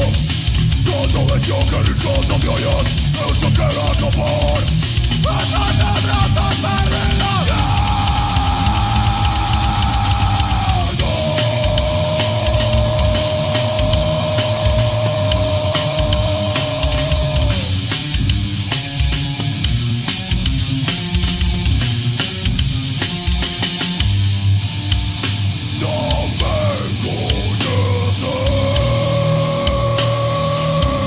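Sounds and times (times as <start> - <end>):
distorted guitars: 0.0 - 31.0
drum-kit hits: 0.0 - 31.0
metal band playing: 0.0 - 31.0.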